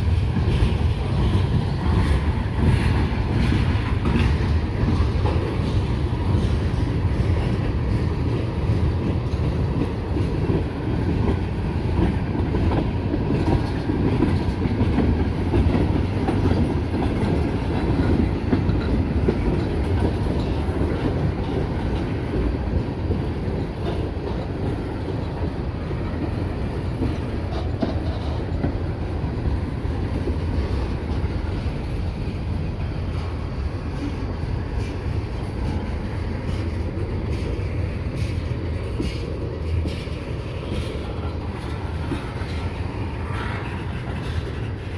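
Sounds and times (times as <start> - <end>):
freight train rumbling: 0.0 - 44.9
wheels clacking over rail joints: 0.0 - 44.9.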